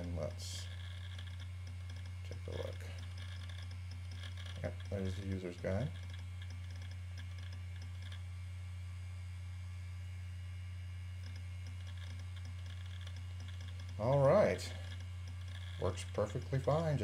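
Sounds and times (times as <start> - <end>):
faint drive ticks: 0.0 - 8.3, 11.1 - 17.0
disk drive spinning hum: 0.0 - 17.0.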